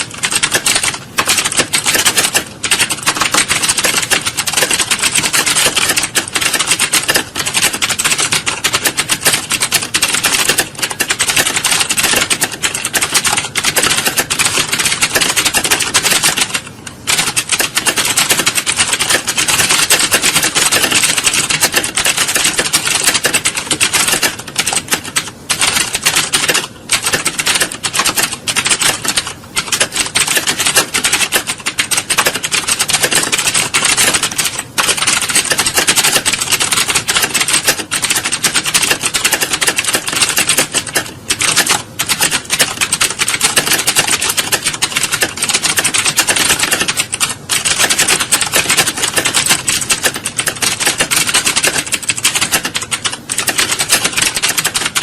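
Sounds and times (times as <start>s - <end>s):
many keyboards typing fast: 0.0s - 55.0s.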